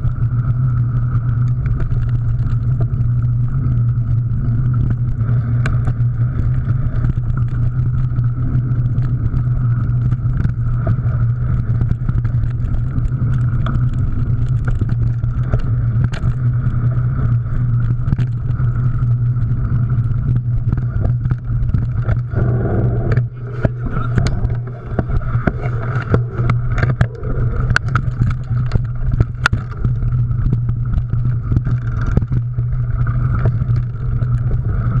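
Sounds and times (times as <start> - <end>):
bike clicking and rattling: 0.0 - 35.0
rumble of wind and tyres: 0.0 - 35.0.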